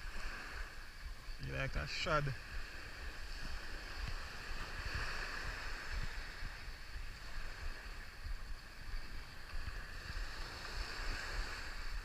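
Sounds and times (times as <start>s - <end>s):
steady outdoor hiss: 0.0s - 12.0s
wind buffeting microphone: 0.0s - 12.0s.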